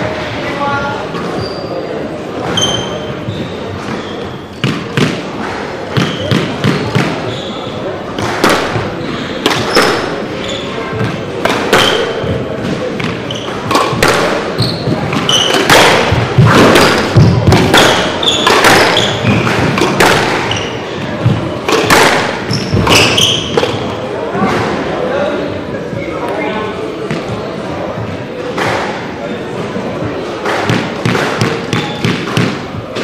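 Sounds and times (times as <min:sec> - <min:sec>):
crowd chatter: 0:00.0 - 0:33.0
squash ball echoing thuds: 0:02.4 - 0:24.8, 0:27.0 - 0:33.0.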